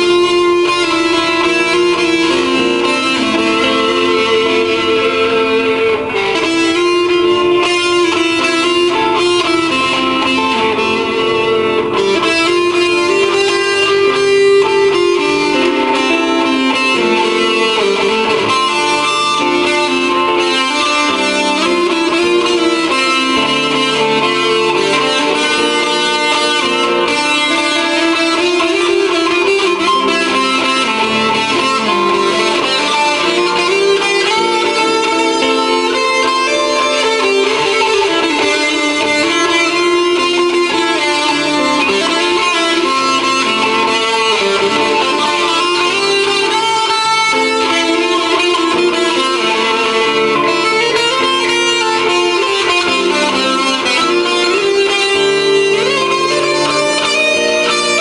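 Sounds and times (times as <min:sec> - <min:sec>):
electric guitar melody: 0:00.0 - 0:58.0.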